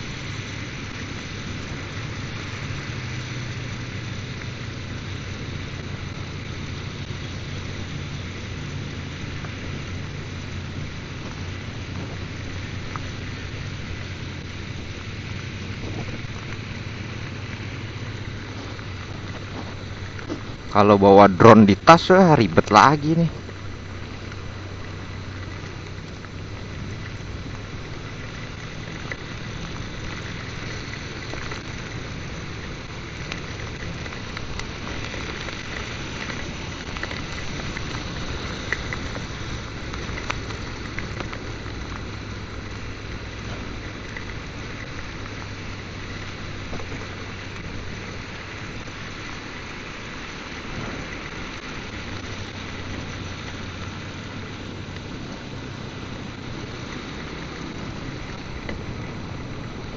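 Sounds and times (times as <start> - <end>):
heavy rain falling: 0.0 - 59.9
low hum: 0.0 - 59.9.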